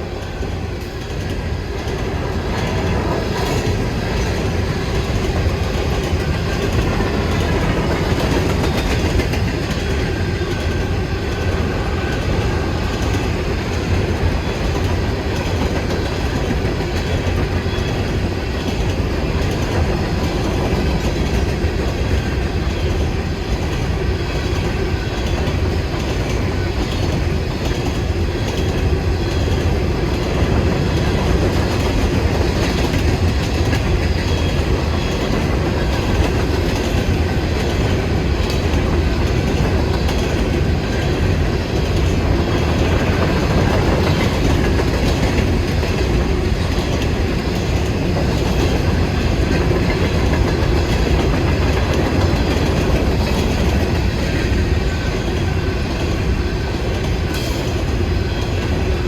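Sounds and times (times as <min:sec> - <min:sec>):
freight train wheels on rail: 0:00.0 - 0:59.0.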